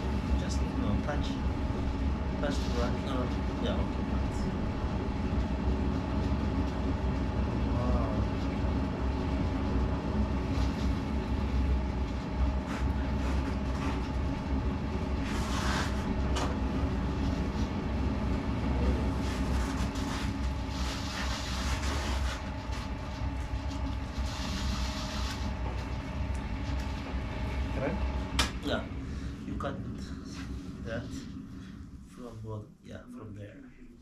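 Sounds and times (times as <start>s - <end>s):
potter's wheel spinning: 0.0s - 31.4s.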